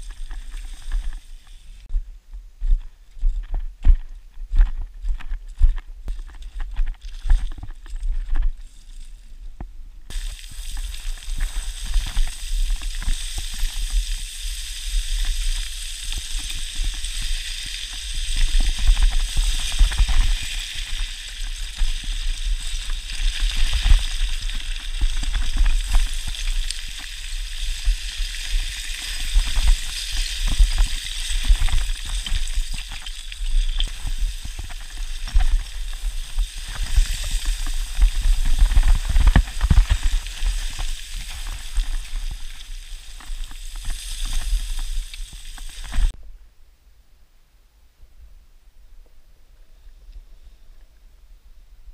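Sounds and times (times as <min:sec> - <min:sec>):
stones crunching and rattling: 0:00.0 - 0:01.9, 0:03.3 - 0:09.2, 0:10.1 - 0:46.2
footsteps on loose scree: 0:00.0 - 0:09.4, 0:10.1 - 0:46.2.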